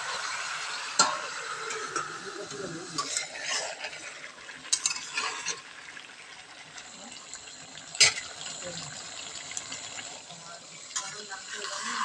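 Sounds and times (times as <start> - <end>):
stirring and scraping in a pot: 0.1 - 7.0, 7.9 - 12.0.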